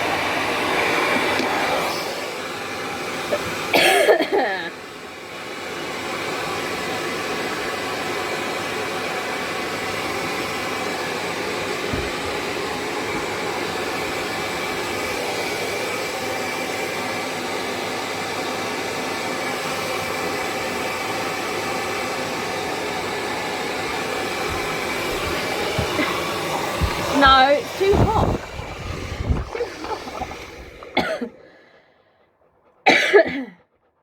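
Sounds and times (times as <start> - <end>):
hair dryer blowing: 0.0 - 31.8.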